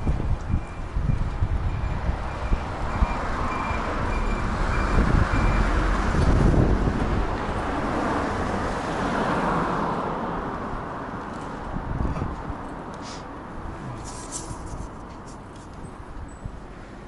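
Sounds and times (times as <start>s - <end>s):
wind buffeting microphone: 0.0s - 9.1s, 10.6s - 16.8s
road traffic noise: 0.0s - 17.0s.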